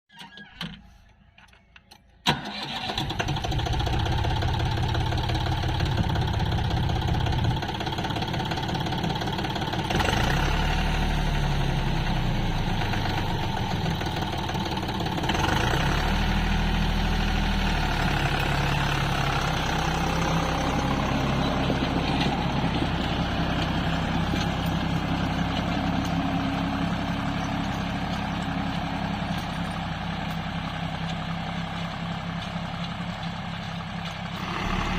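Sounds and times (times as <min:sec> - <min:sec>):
tractor diesel engine running: 0:02.2 - 0:34.9.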